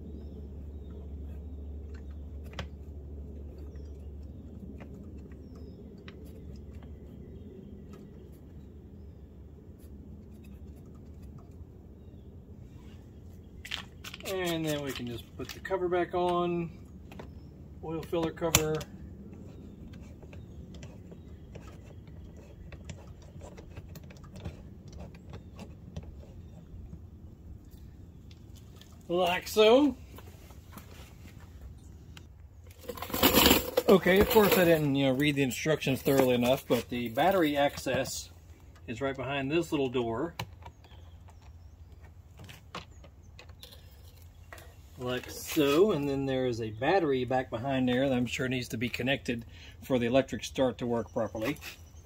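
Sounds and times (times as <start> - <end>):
low background rumble: 0.0 - 50.3
low steady hum: 0.0 - 52.0.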